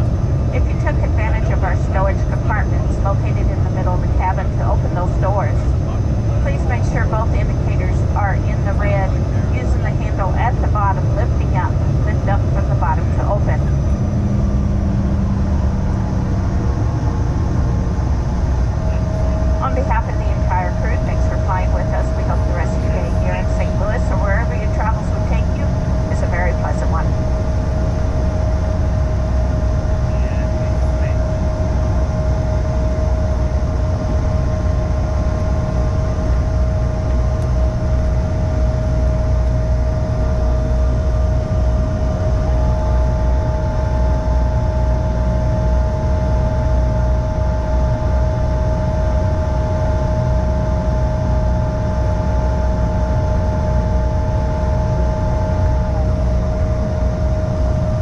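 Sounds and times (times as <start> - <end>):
higher whine: 0.0 - 58.0
jet cabin rumble: 0.0 - 58.0
steady whine: 0.0 - 58.0.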